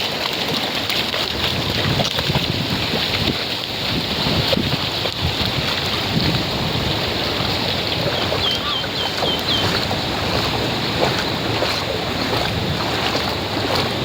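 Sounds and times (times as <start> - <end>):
sea surf washing: 0.0 - 14.0
wind on microphone: 1.1 - 14.0.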